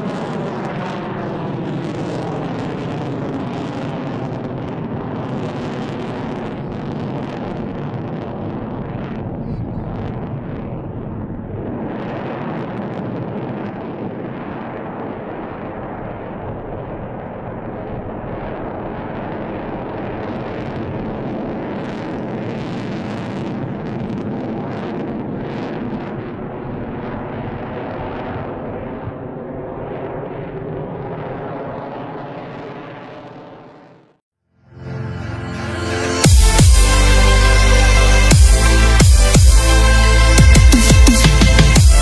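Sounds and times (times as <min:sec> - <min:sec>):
jet roar with crackling: 0:00.0 - 0:34.2.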